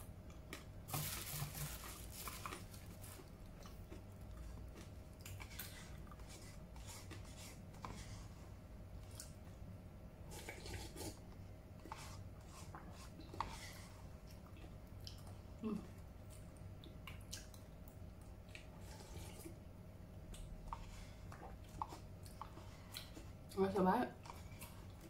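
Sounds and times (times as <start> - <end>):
faint steady hum: 0.0 - 25.0
wet eating sounds: 0.2 - 8.3, 10.3 - 25.0.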